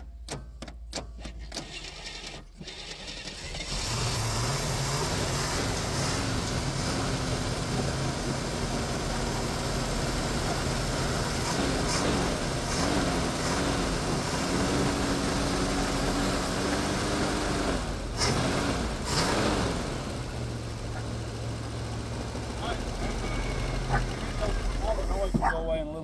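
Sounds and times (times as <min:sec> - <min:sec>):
car engine revving: 0:01.3 - 0:26.0.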